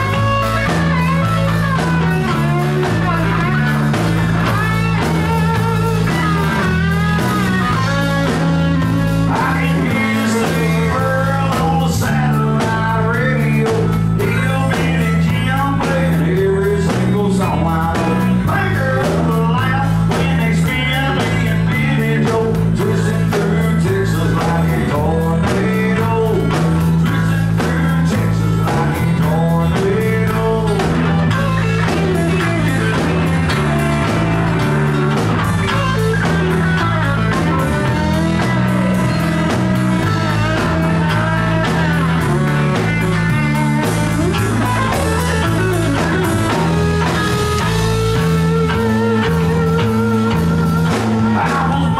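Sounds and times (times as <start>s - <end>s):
country band playing: 0.0s - 51.9s.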